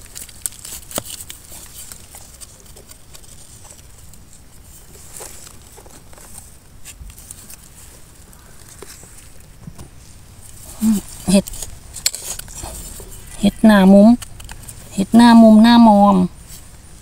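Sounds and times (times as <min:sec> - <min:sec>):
rustling in leaf litter and soil: 0:00.0 - 0:17.0
steady high hiss: 0:00.0 - 0:17.0.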